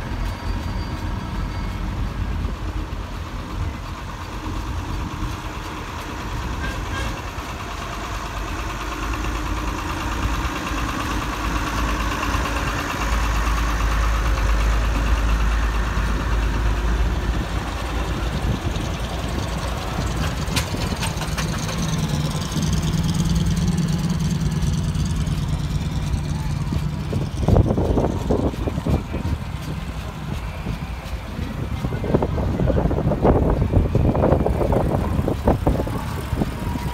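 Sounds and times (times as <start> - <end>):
deep engine rumble: 0.0 - 36.9.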